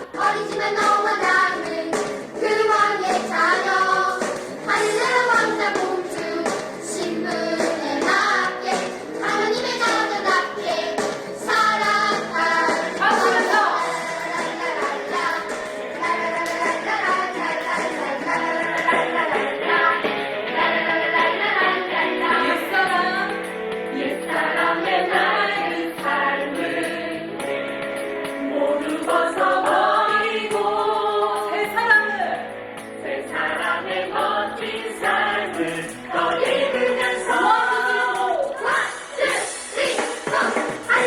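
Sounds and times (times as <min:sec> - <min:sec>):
group of voices singing: 0:00.0 - 0:27.6, 0:28.3 - 0:41.0
instrumental backing track: 0:00.0 - 0:41.0.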